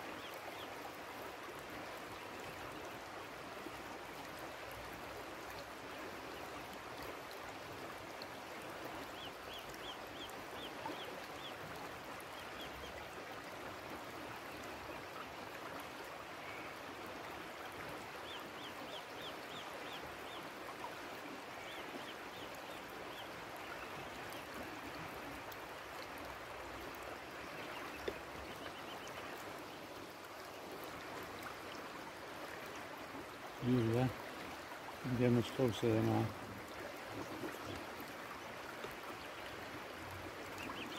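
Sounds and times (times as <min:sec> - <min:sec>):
fast-flowing river water: 0:00.0 - 0:40.9.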